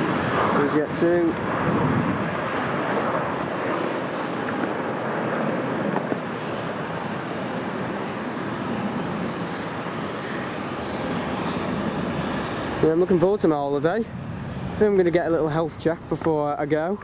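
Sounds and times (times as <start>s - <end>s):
jet engines at take-off thrust: 0.0s - 17.0s.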